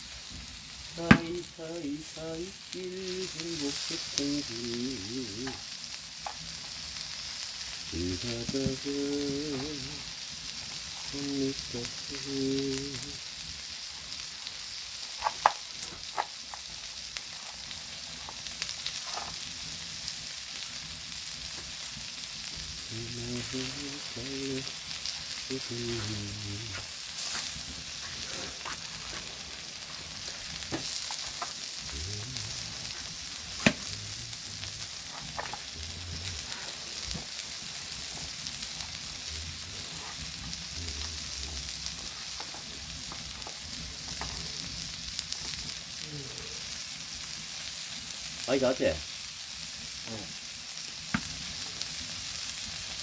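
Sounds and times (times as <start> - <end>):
meat sizzling on hot stone: 0.0 - 53.0.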